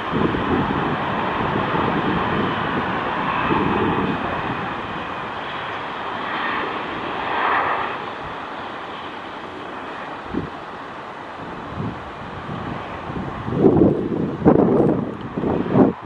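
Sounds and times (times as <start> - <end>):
jet engines rushing on landing: 0.0 - 16.0.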